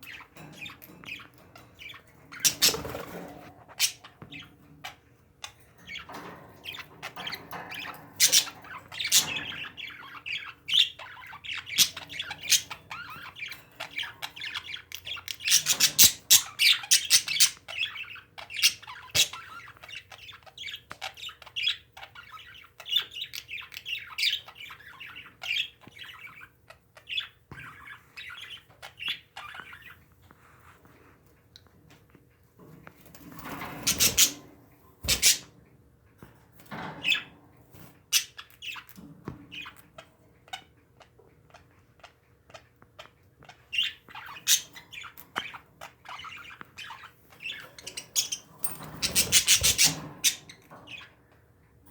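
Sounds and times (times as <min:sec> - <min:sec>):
parakeets chattering and squawking: 0:00.0 - 0:32.0, 0:33.0 - 0:35.8, 0:36.7 - 0:51.9.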